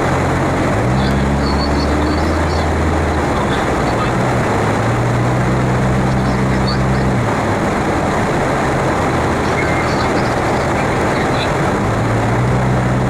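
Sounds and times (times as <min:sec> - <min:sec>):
car road noise: 0:00.0 - 0:13.0
low engine hum: 0:00.0 - 0:13.0.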